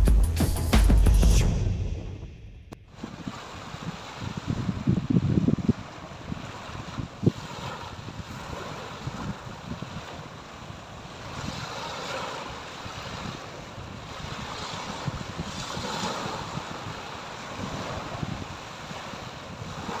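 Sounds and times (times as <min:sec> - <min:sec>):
small waves breaking on beach: 0:02.9 - 0:20.0.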